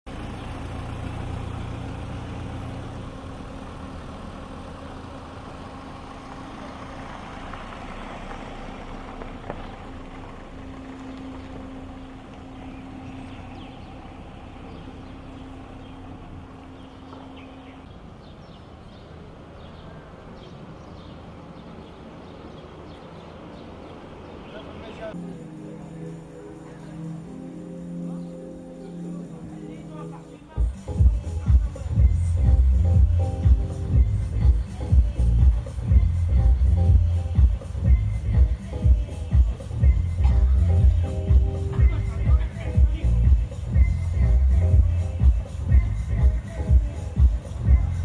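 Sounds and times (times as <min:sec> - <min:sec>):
street noise: 0:00.0 - 0:48.0
vehicle engine humming: 0:00.0 - 0:48.0.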